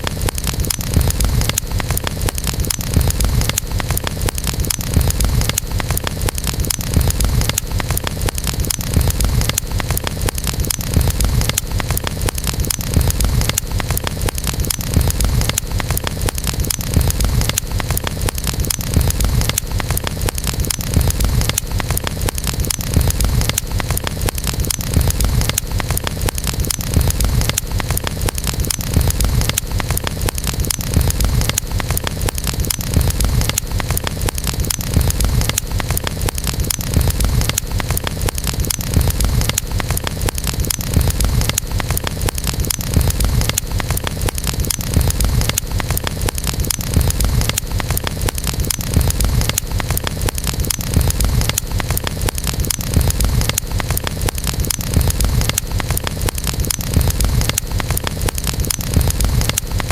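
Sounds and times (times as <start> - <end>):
campfire crackling and roaring: 0.0 - 59.9.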